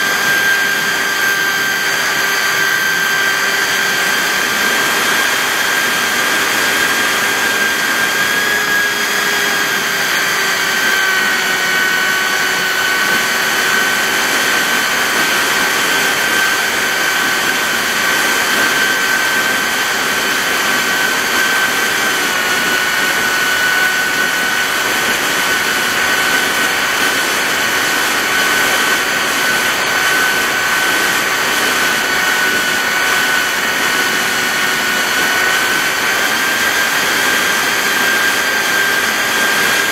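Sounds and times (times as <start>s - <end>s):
model airplane motor whining: 0.0s - 39.9s.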